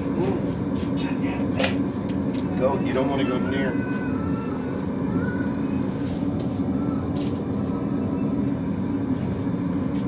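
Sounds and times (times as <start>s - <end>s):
forge air blower roaring: 0.0s - 10.0s.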